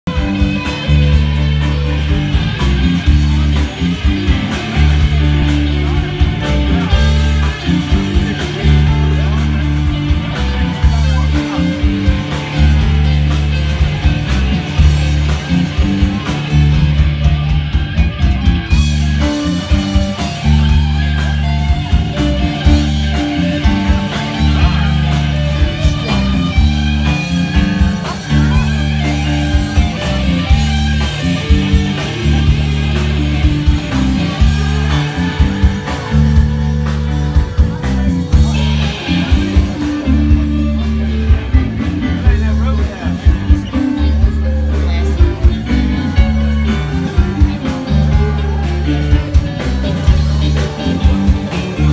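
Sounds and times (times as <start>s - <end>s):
electric guitar: 0.0s - 51.9s
live blues band playing: 0.0s - 51.9s.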